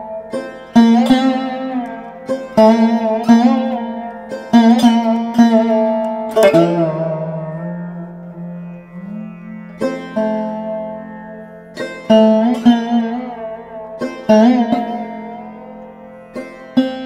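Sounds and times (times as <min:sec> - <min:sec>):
plucked string notes: 0:00.0 - 0:17.0.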